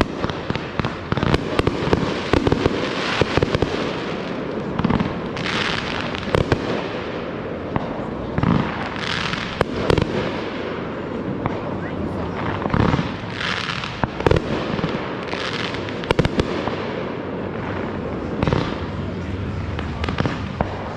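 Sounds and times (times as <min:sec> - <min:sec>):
fireworks popping and banging: 0:00.0 - 0:20.9
hissing crackling firework bursts: 0:00.0 - 0:20.9.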